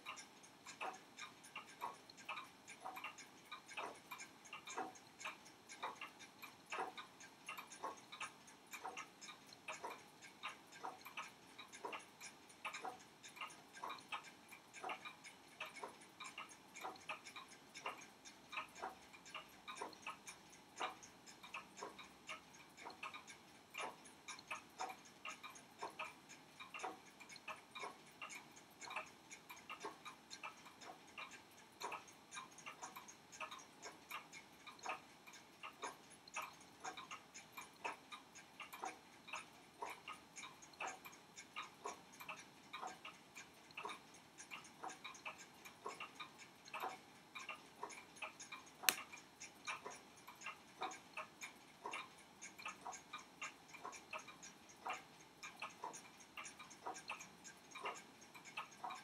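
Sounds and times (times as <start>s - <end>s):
pocket watch ticking: 0.0s - 59.0s.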